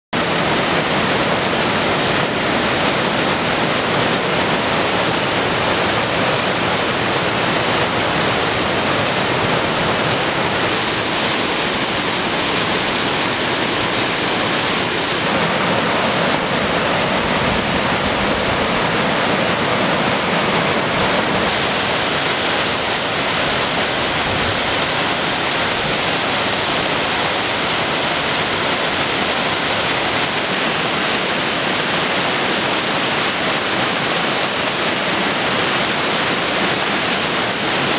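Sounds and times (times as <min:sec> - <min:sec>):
creek rushing over rocks: 0:00.2 - 0:37.9.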